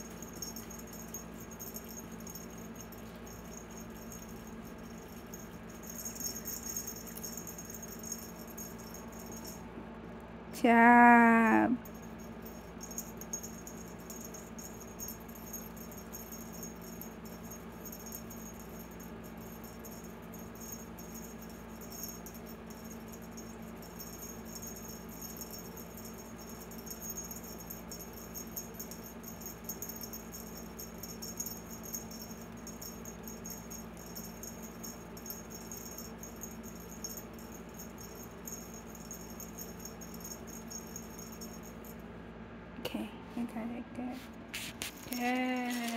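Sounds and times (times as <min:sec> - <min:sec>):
cat toy jingling rattle: 0:00.0 - 0:09.6, 0:11.8 - 0:42.0, 0:44.6 - 0:45.9.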